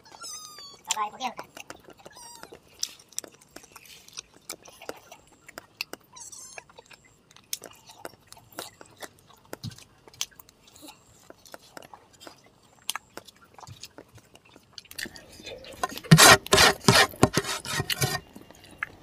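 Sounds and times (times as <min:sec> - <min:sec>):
person chewing with wet smacks: 0:00.1 - 0:16.1.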